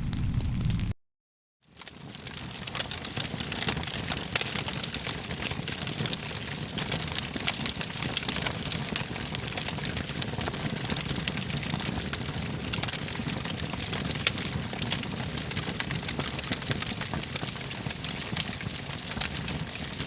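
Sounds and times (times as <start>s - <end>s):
fire roaring and crackling: 0.0s - 1.0s, 1.8s - 20.0s.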